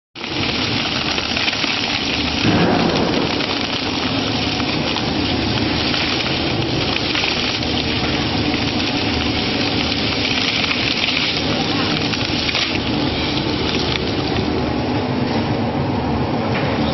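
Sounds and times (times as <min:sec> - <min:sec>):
shredder crushing material: 0:00.2 - 0:15.3.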